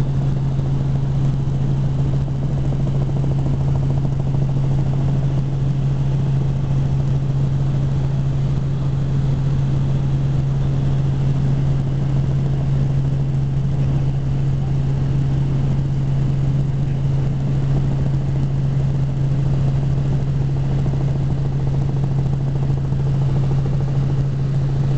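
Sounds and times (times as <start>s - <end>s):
helicopter rotor and engine drone: 0.0s - 24.9s.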